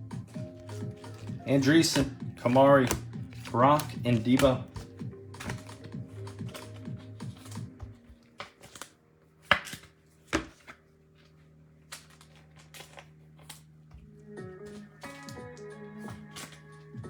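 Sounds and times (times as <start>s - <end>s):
faint background music: 0.0s - 17.0s
trading cards being handled: 0.0s - 17.0s.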